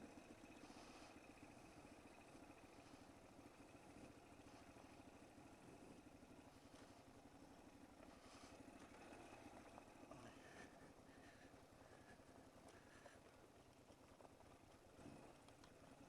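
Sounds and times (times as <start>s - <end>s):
muffled motorcycle engine at low revs: 0.0s - 16.0s.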